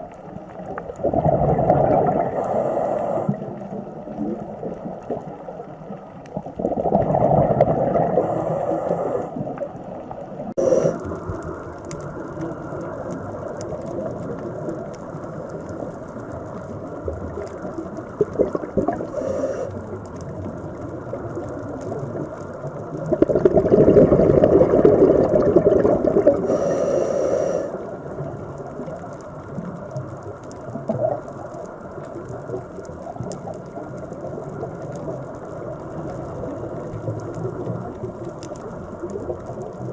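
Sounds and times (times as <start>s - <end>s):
underwater rushing water: 0.0s - 39.9s.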